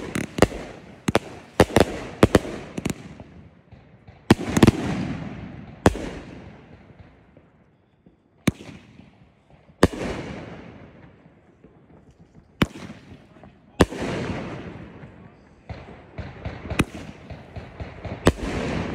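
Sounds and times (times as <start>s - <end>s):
fireworks bangs: 0.0s - 18.9s.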